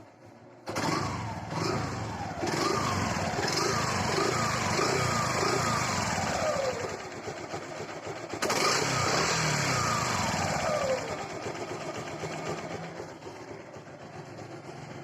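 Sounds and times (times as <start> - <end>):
motorcycle engine revving: 0.6 - 15.0.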